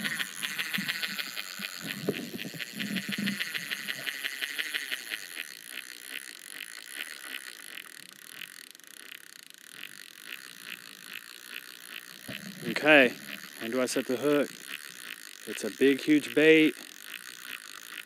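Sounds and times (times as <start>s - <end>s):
fishing reel clicker ticking: 0.0s - 18.0s.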